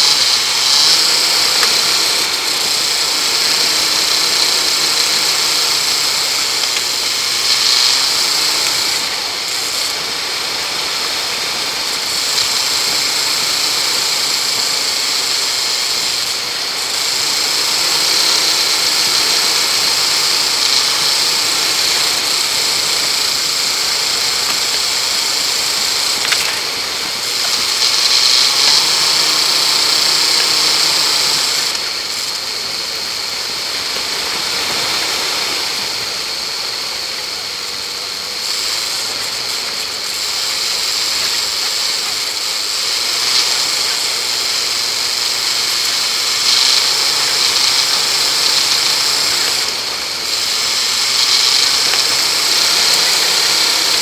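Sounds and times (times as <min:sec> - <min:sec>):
car engine running: 0:00.0 - 0:54.0
steady high hiss: 0:00.0 - 0:54.0.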